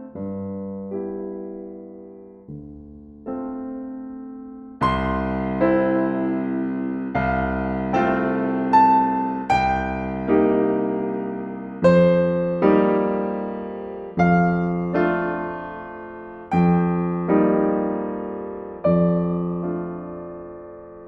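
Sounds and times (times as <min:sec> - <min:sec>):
slow gentle piano chords: 0:00.0 - 0:21.0.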